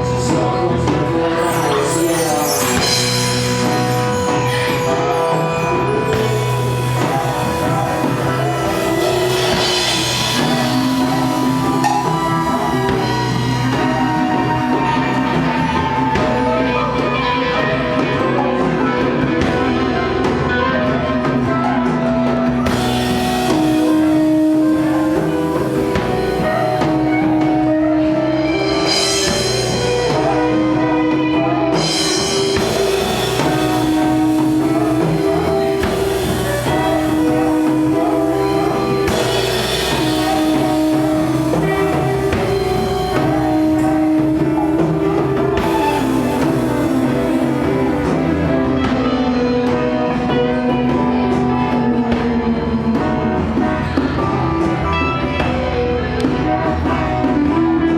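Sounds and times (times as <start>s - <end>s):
bass and drum kit: 0.0s - 57.9s
sustained guitar lines: 0.0s - 57.9s.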